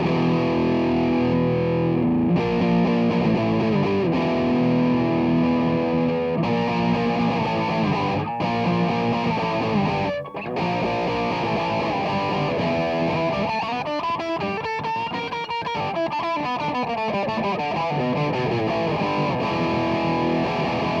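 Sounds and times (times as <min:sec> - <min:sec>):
distorted electric guitar: 0:00.0 - 0:21.0.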